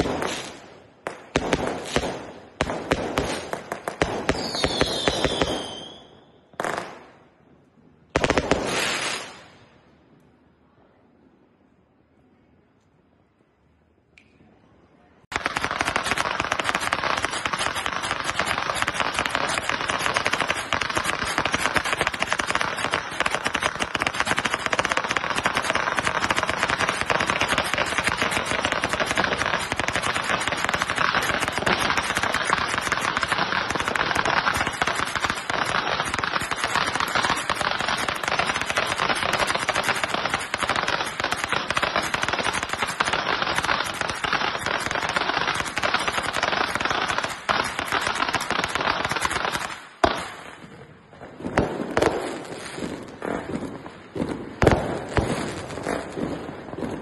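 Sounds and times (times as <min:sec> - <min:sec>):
fireworks crackling: 0:00.0 - 0:10.0, 0:15.2 - 0:57.0.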